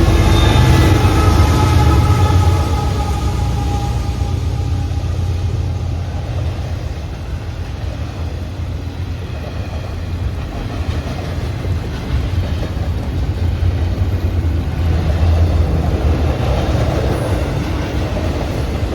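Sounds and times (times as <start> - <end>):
freight train rolling past: 0.0 - 18.9.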